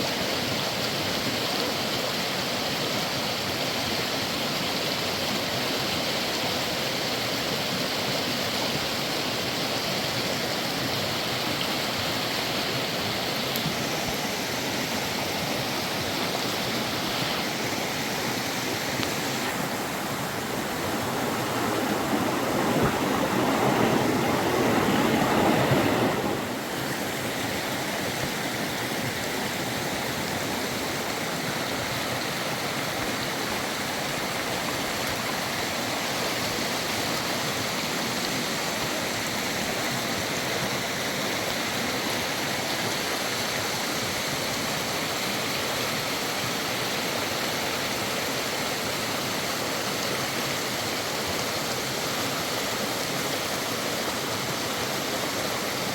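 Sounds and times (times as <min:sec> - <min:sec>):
flowing river water: 0:00.0 - 0:55.9.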